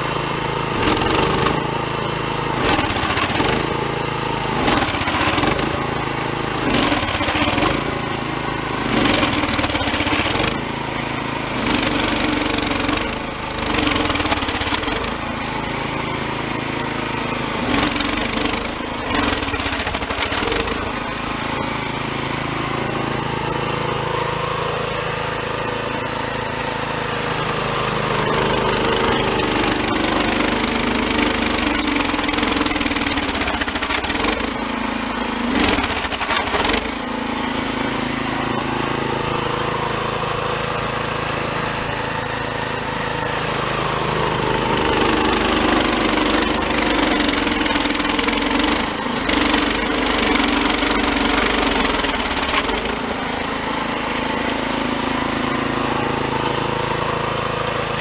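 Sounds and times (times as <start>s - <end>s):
snowblower engine under load: 0.0s - 58.0s.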